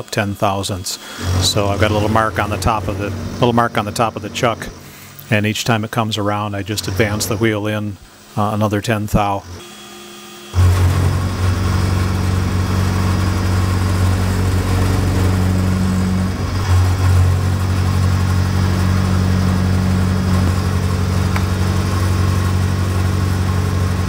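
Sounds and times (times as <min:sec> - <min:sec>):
milling machine cutting metal: 0:00.0 - 0:24.0
steady machine hum: 0:00.0 - 0:24.0.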